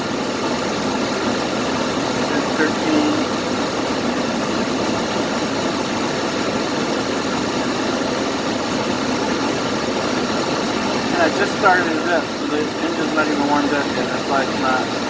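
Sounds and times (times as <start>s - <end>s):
vehicle engine idling: 0.2s - 15.0s.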